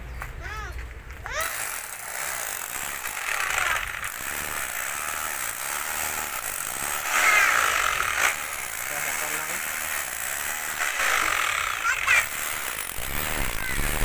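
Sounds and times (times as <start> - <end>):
power tool grinding stone: 1.4 - 14.0.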